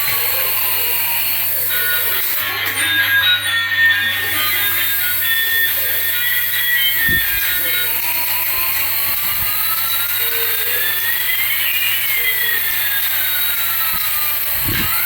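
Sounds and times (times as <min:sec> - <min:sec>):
toy whirring hiss: 0:00.0 - 0:15.0.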